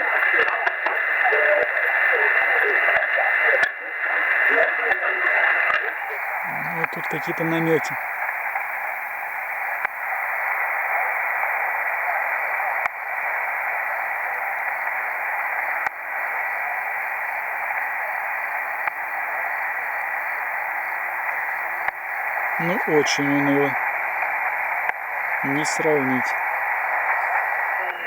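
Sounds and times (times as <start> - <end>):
soft radio click: 0.0 - 22.5
faint steady tone: 0.0 - 28.0
radio static hiss: 0.0 - 28.0.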